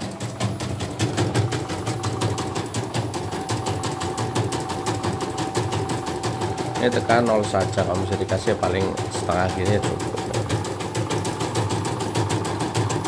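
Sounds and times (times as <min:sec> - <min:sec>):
embroidery machine needle clatter: 0:00.0 - 0:13.0.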